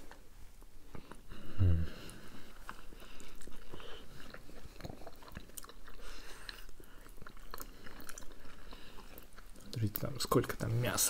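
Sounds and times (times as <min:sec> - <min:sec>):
people chewing dumplings: 0:00.0 - 0:11.0.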